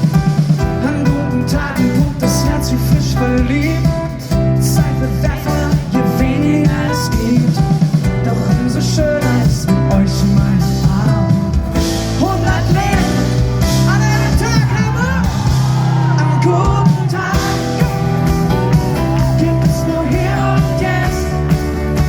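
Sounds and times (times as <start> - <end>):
man singing with live band: 0.7 - 21.6.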